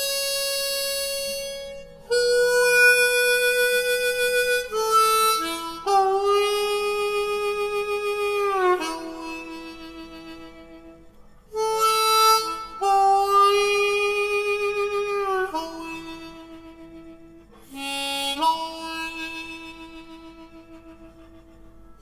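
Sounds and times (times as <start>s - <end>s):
harmonica playing slow notes: 0.0s - 22.0s.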